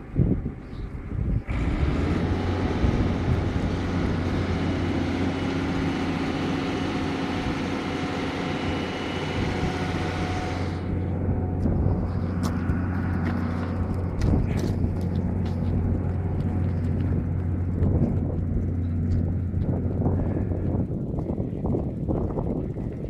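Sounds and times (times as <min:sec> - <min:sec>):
diesel engine running hard: 0:00.0 - 0:23.0.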